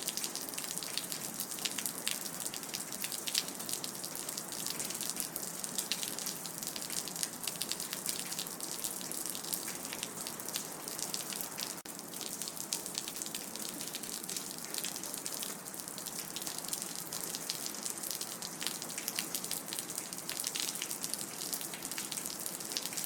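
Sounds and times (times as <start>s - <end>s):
rain dripping: 0.0s - 23.0s.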